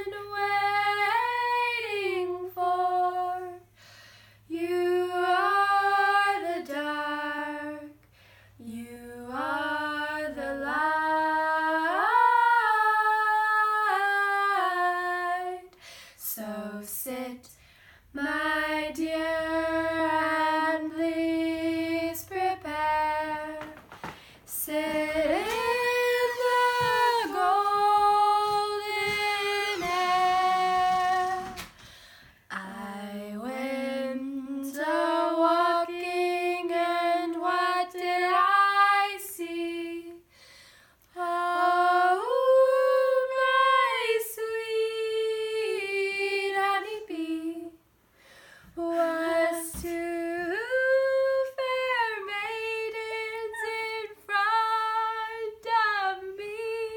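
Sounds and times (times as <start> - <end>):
girls singing a cappella: 0.0 - 3.8, 4.4 - 31.9, 32.5 - 40.3, 41.1 - 47.9, 48.7 - 56.9.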